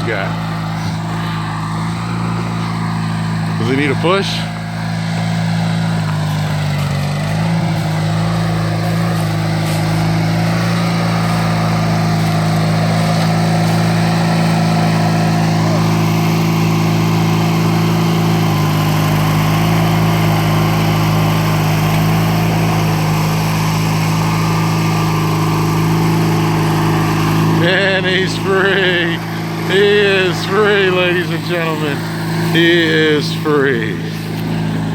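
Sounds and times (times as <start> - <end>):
riding lawnmower engine under load: 0.0 - 34.9.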